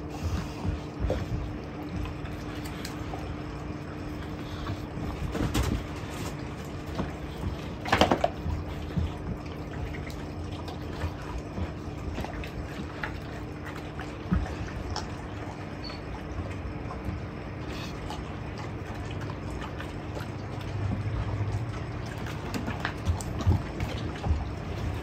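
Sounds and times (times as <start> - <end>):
dogs chewing and licking: 0.0 - 25.0.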